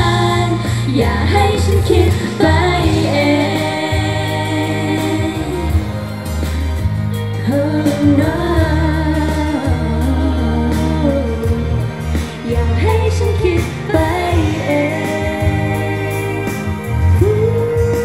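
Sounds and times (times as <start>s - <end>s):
pop backing track with heavy bass: 0.0s - 18.0s
women singing pop into microphones: 0.0s - 18.0s.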